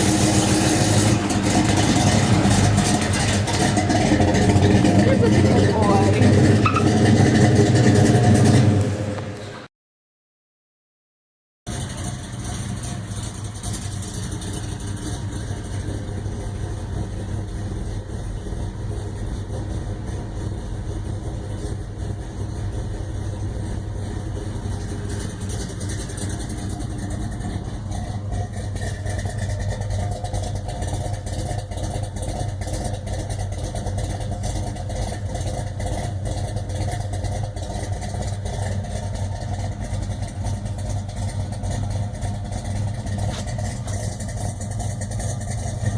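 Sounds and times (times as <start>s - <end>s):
car engine idling: 0.0s - 9.7s, 11.7s - 45.9s.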